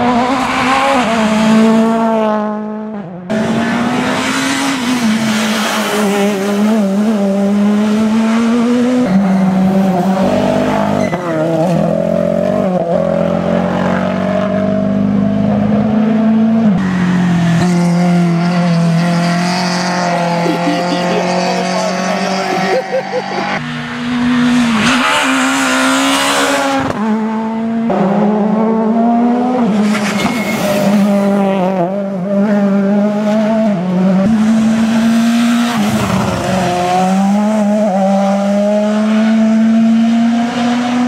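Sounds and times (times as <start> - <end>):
rally car engines revving: 0.0 - 41.0.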